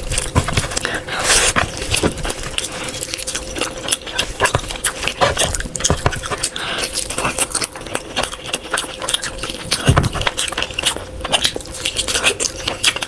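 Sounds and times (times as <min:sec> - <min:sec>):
faint steady hum: 0:00.0 - 0:13.0
wet chewing and smacking: 0:00.0 - 0:13.0.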